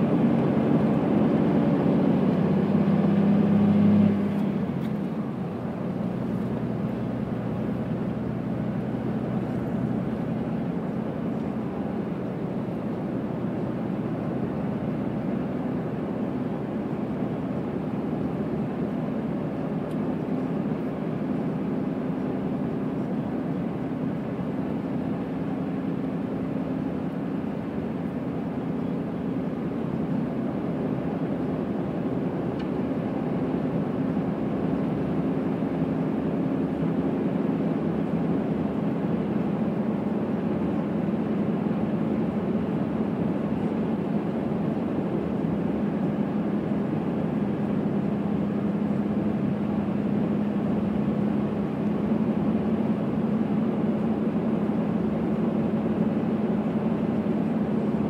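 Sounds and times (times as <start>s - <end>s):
low mechanical drone: 0.0s - 58.0s.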